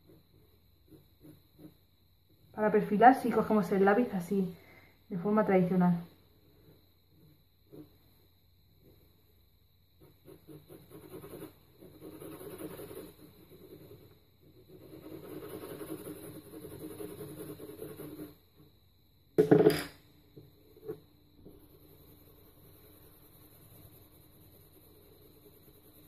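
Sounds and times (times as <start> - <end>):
pencil scratching on paper: 0.0 - 3.9, 5.6 - 9.4, 10.0 - 18.7, 20.6 - 26.0.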